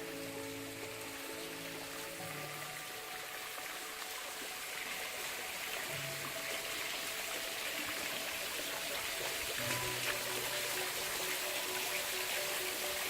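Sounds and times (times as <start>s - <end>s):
faint background music: 0.0s - 13.0s
running water rushing: 0.0s - 13.0s.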